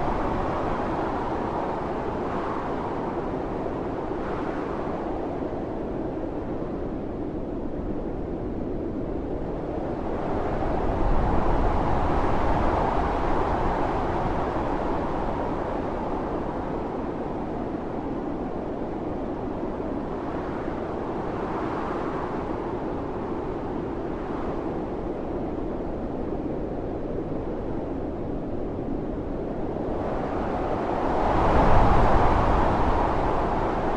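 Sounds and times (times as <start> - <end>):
storm wind blowing hard: 0.0 - 33.9.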